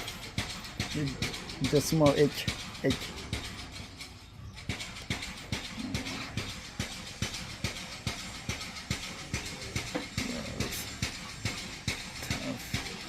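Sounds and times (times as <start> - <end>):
rapid hammer blows: 0.0 - 13.0.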